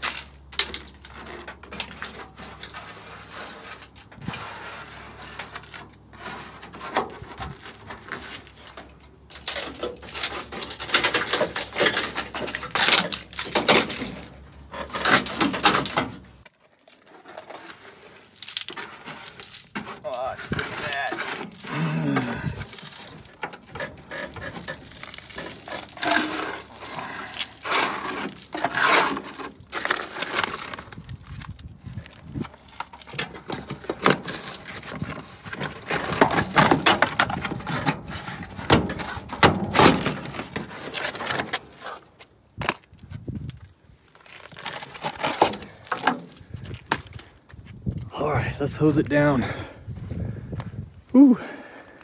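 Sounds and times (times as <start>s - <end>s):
rust and dirt crunching: 0.0s - 52.0s.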